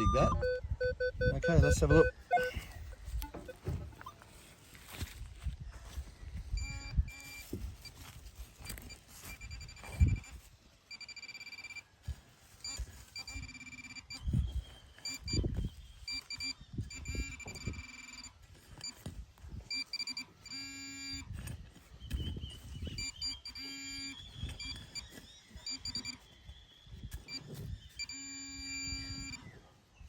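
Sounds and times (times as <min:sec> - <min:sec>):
metal detector beeping: 0:00.0 - 0:04.5, 0:06.4 - 0:29.6
digging in soil: 0:02.3 - 0:30.0.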